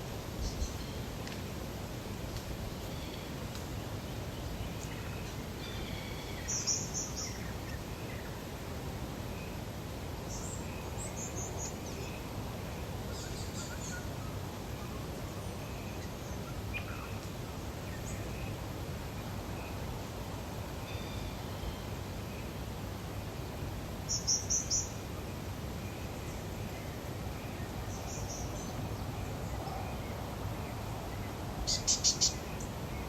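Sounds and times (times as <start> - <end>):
low background noise: 0.0 - 33.0.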